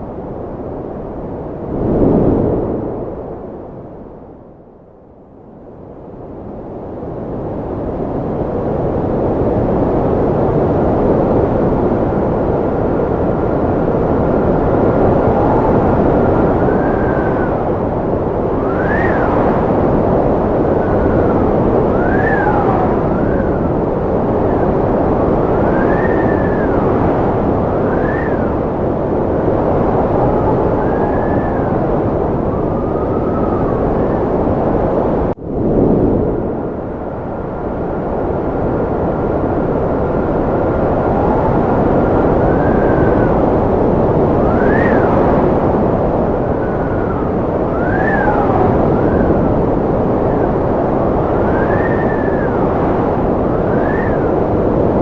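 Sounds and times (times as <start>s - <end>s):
strong wind blowing: 0.0s - 4.8s, 5.8s - 55.0s
wind whistling and howling: 0.0s - 55.0s.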